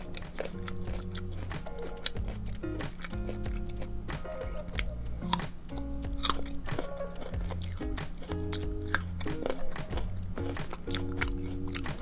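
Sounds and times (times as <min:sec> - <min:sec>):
background music: 0:00.0 - 0:12.0
crunchy chewing: 0:00.0 - 0:12.0.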